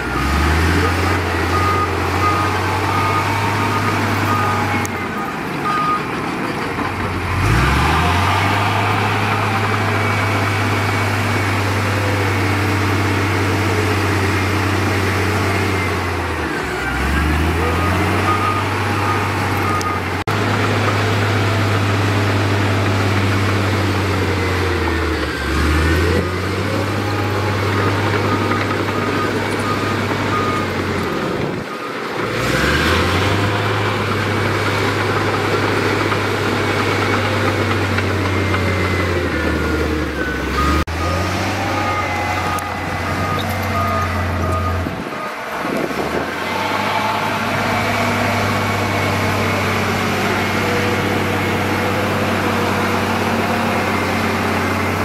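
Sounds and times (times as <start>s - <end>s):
reversing alarm beeping: 0.0s - 20.2s, 23.8s - 55.0s
heavy diesel engines droning: 0.0s - 55.0s.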